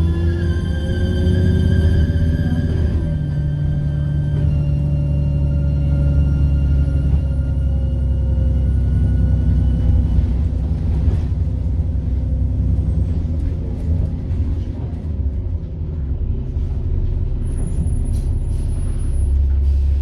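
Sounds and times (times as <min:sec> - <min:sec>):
diesel bus engine drone: 0:00.0 - 0:20.0.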